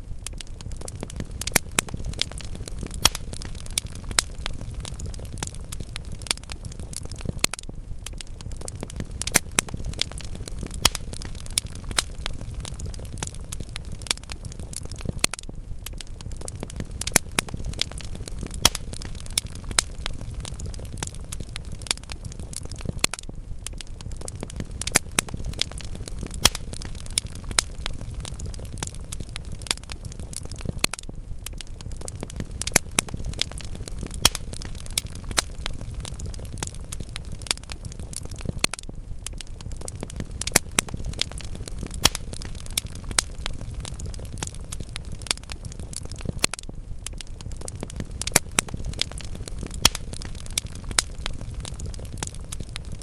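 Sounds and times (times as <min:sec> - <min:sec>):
logs burning and crackling: 0:00.0 - 0:53.0.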